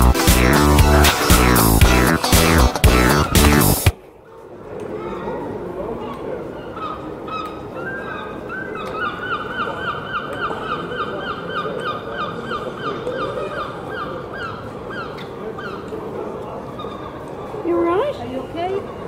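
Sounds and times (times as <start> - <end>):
street background noise: 0.0 - 19.0.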